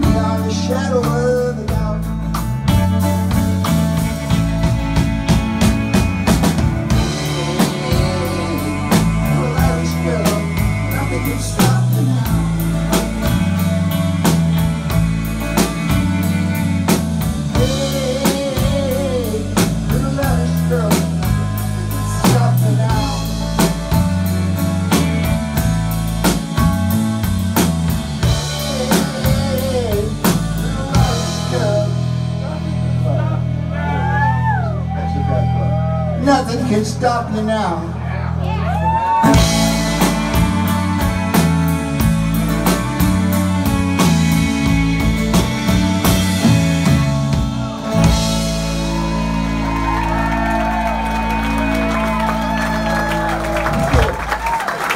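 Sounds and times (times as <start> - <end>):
steady drum beat: 0.0 - 32.4, 39.1 - 54.9
bass line: 0.0 - 54.9
electric lead guitar: 0.0 - 54.9.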